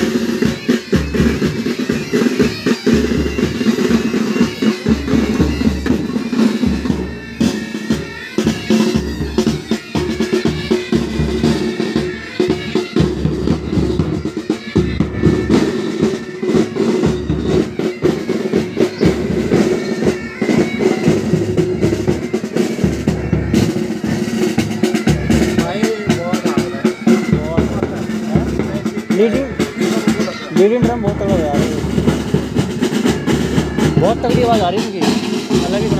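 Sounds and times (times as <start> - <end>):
bagpipes droning: 0.0 - 35.9
snare drums rolling: 0.0 - 35.9.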